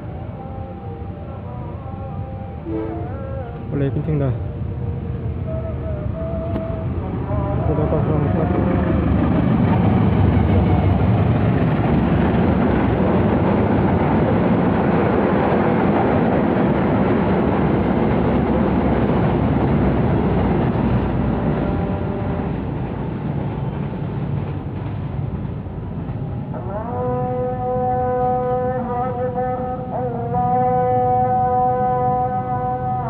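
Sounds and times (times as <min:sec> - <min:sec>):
train wheels rumbling on rails: 0:02.6 - 0:33.0.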